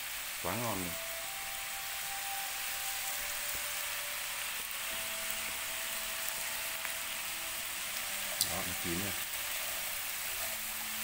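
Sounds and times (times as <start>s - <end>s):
cracklings sizzling in hot fat: 0.0s - 11.0s.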